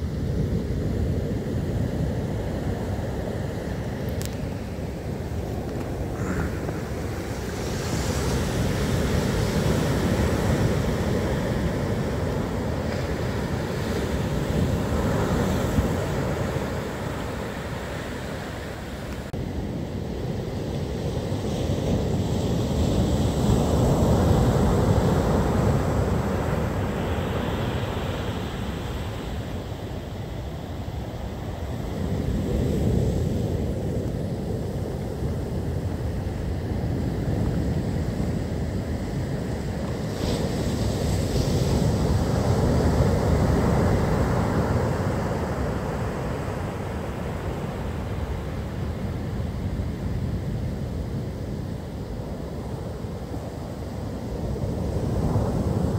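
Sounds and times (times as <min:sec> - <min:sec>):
storm surf breaking: 0:00.0 - 0:55.9
wind buffeting microphone: 0:00.0 - 0:55.9.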